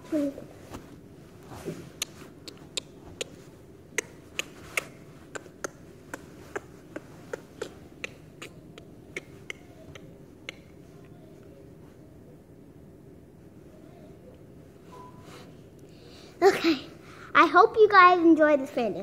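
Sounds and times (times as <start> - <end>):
faint room noise: 0.0 - 19.0.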